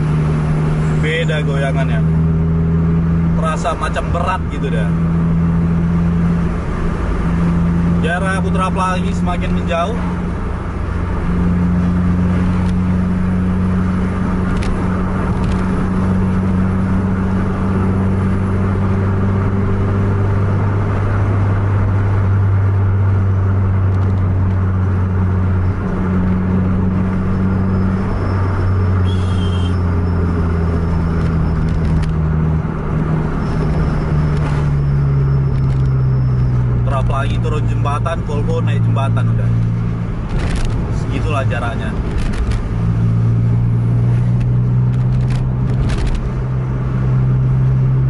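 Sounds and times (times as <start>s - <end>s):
tyre and road noise: 0.0s - 48.0s
vehicle engine droning: 0.0s - 48.0s.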